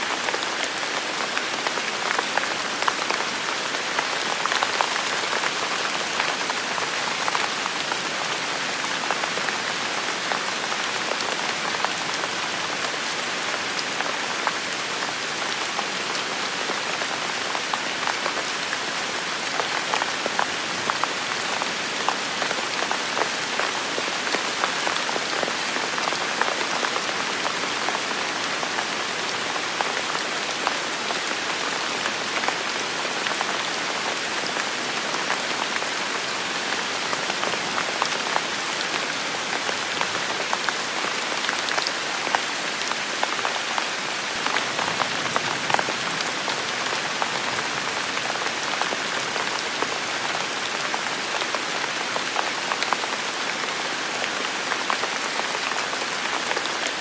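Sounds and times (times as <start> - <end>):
raindrops pattering on leaves: 0.0 - 57.0.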